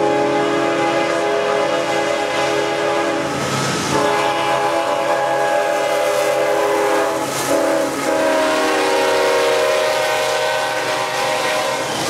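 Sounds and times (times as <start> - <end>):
locomotive horn chord: 0.0 - 12.0
train running noise: 0.0 - 12.0.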